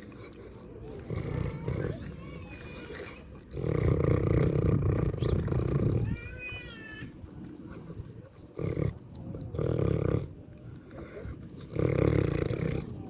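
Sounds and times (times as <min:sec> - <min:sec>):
pig grunting: 0:00.0 - 0:06.9, 0:07.8 - 0:10.4, 0:11.0 - 0:13.0.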